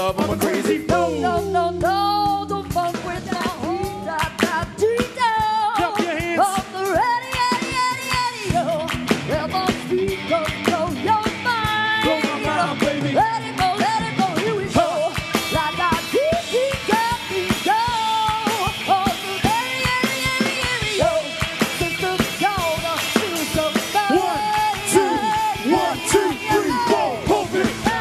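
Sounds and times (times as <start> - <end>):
live pop band through pa: 0.0 - 28.0
person singing: 0.0 - 28.0
steady drum beat: 0.0 - 28.0.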